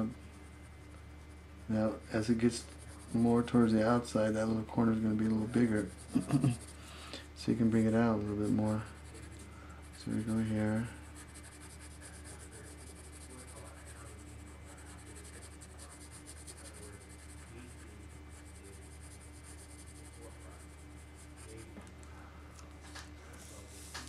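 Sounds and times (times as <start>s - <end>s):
pencil scratching on paper: 0.0s - 21.8s
low electrical hum: 0.0s - 24.0s.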